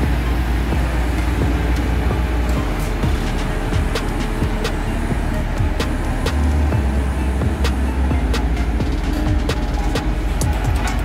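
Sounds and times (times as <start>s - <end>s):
road roller diesel rumble: 0.0s - 11.0s.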